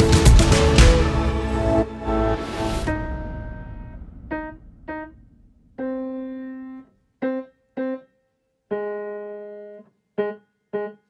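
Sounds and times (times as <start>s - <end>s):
piano slow melody: 0.0s - 11.0s.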